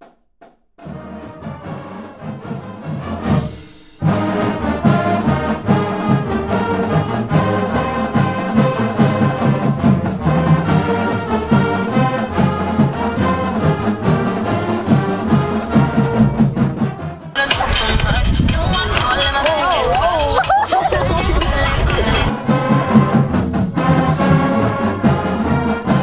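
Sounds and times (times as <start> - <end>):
brass-led instrumental music: 0.0 - 26.0.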